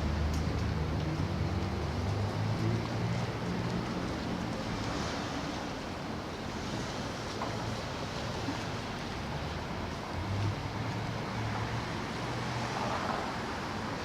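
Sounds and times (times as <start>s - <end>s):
cars passing with tire hiss: 0.0s - 14.0s.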